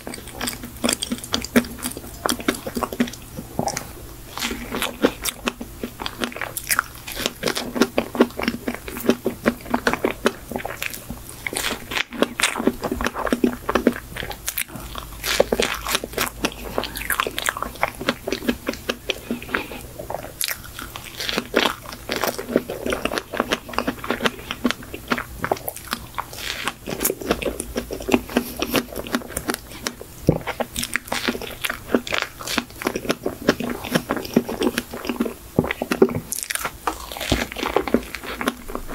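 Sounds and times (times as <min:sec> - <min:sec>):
biting and chewing cake: 0:00.0 - 0:38.9.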